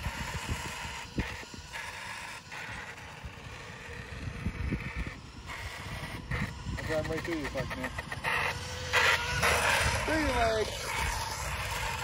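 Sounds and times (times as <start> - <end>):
electric toy motor whining: 0.0 - 12.0.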